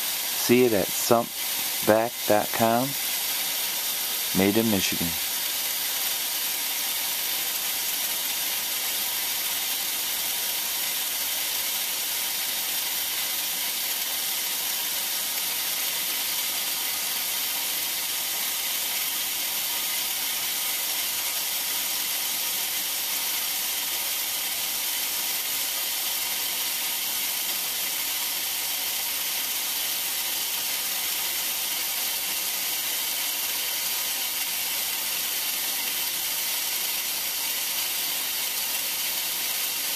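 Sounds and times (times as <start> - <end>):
sump pump rushing water: 0.0 - 39.9.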